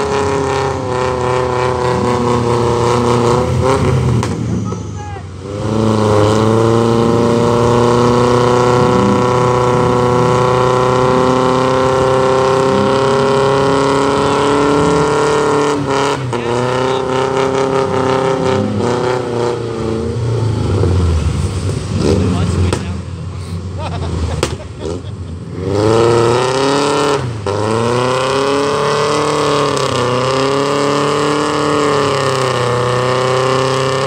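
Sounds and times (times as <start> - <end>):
diesel engine revving hard: 0.0 - 34.0.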